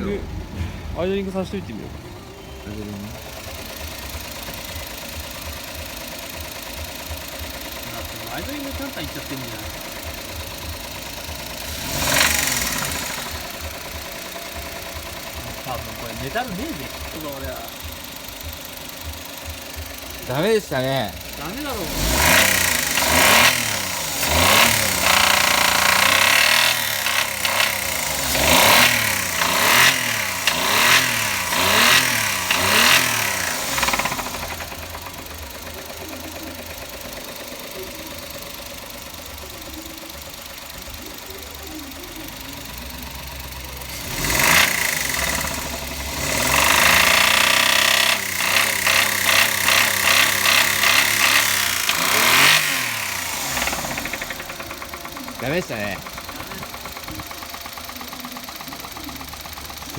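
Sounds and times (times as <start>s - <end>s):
knocking engine revving: 0.0s - 59.9s.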